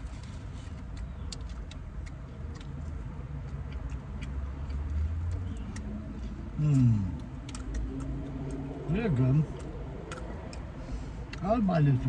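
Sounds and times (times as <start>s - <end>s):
low car cabin hum: 0.0s - 12.0s
people chewing sandwiches: 0.0s - 12.0s.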